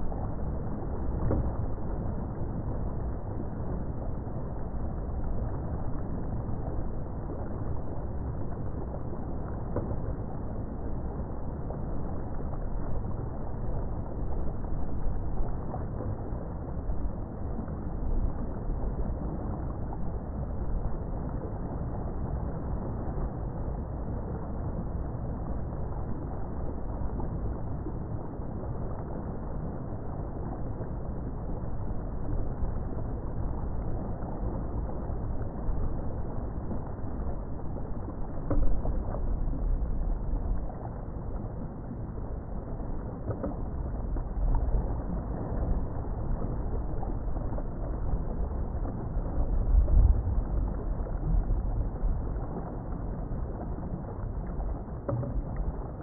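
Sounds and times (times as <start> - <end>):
boat engine rumble: 0.0 - 56.0
water rushing along hull: 0.0 - 56.0.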